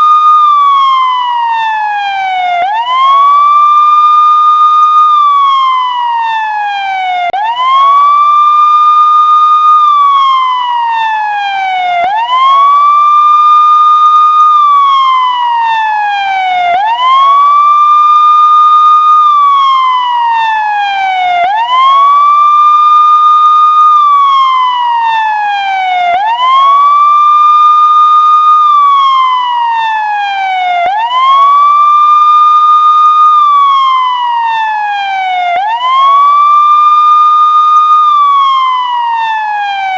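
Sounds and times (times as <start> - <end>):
electronic police siren wailing: 0.0 - 39.9.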